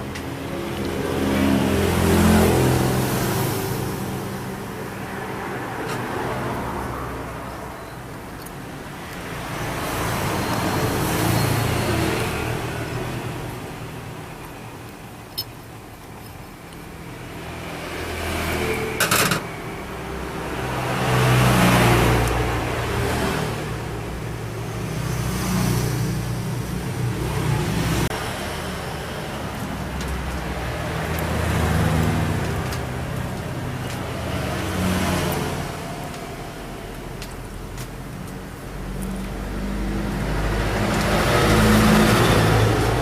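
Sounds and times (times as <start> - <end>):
vehicles passing by: 0.0 - 43.0.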